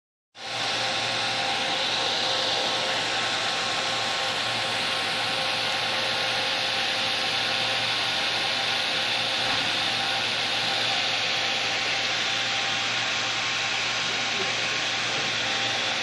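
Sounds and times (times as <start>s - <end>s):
electric motor whirring: 0.4s - 16.0s.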